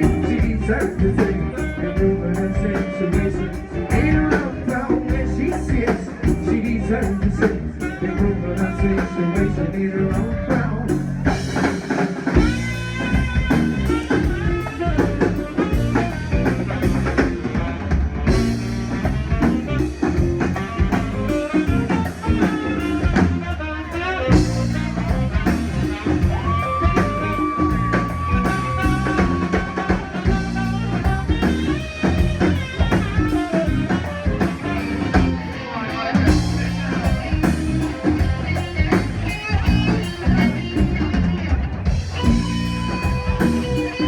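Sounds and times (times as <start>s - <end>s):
drums keeping a steady beat: 0.0s - 44.0s
live rock band instrumental: 0.0s - 44.0s.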